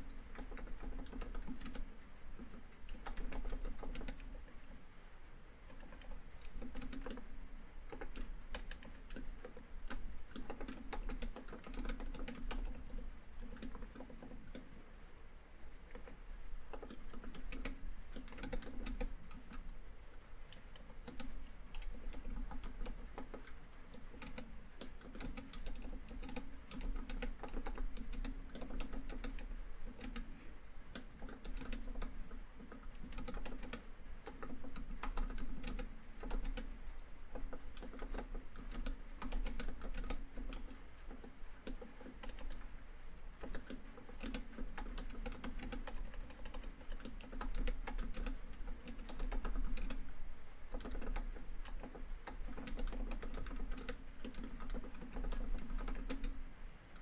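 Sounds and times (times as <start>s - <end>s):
typing on laptop keyboard: 0.0s - 4.8s, 5.7s - 14.8s, 15.8s - 42.8s, 43.4s - 50.1s, 50.7s - 57.0s.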